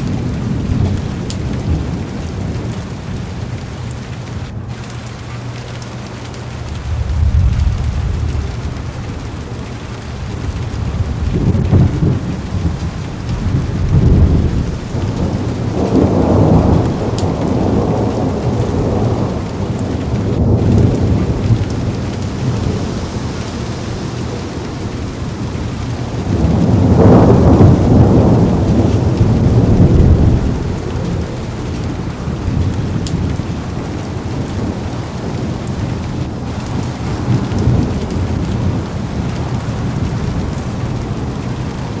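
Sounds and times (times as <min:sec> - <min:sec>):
heavy rain on car window: 0:00.0 - 0:42.0
rolling thunder: 0:00.0 - 0:42.0.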